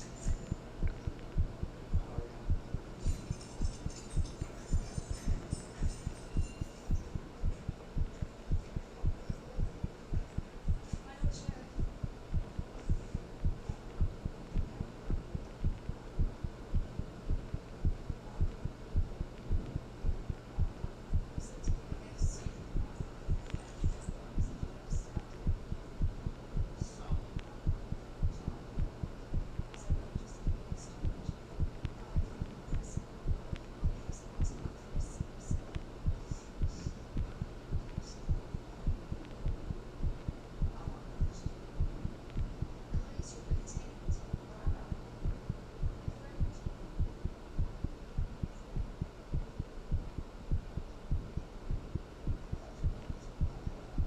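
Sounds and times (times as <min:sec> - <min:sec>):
heartbeat: 0:00.0 - 0:54.0
steady low hum: 0:00.0 - 0:54.0.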